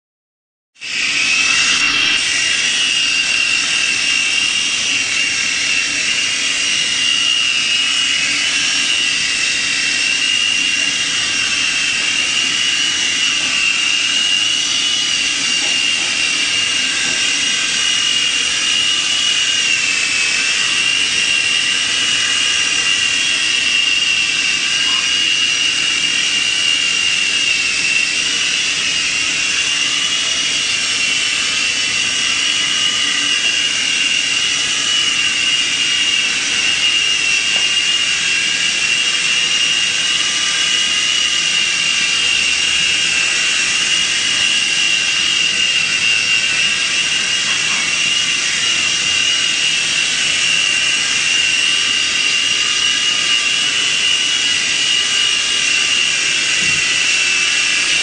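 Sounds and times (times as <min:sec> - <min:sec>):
toy helicopter motor whine: 0:00.8 - 0:58.0.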